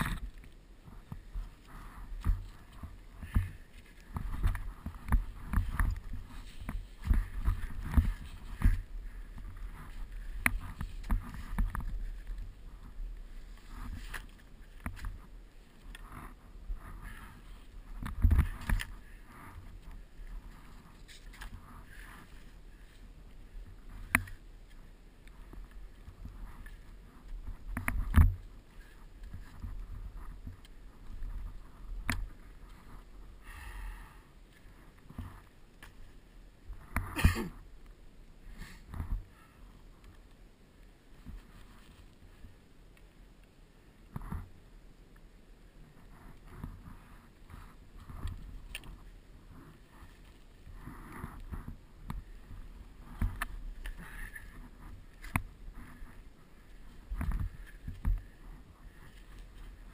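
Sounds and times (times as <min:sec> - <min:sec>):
skis ploughing through snow: 0:00.0 - 0:37.5, 0:45.8 - 0:59.9.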